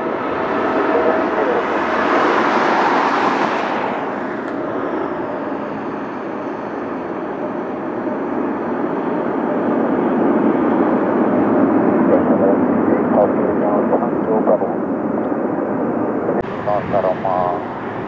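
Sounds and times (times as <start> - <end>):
jet airliner roaring past: 0.0 - 18.0.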